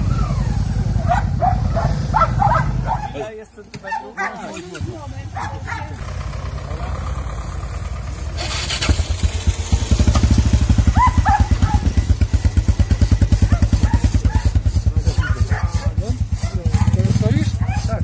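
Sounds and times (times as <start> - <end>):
motorcycle engine idling: 0.0 - 3.2, 4.4 - 18.0.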